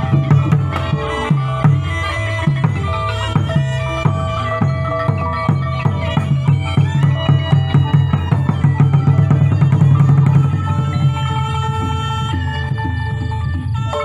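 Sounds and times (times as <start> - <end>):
fast drumming: 0.0 - 14.0
held melodic lines: 0.0 - 14.0.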